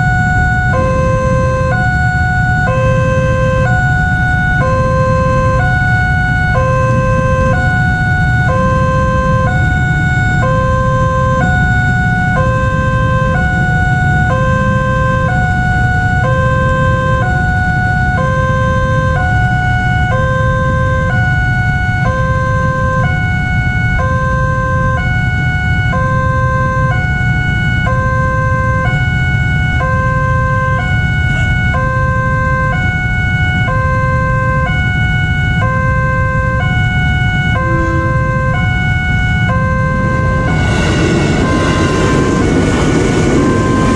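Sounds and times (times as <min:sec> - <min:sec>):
two-tone crossing alarm: 0:00.0 - 0:43.9.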